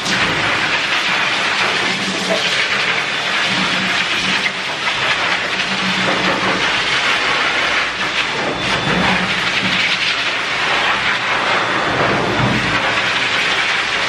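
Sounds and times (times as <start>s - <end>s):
force dryer blowing air: 0.0s - 14.0s.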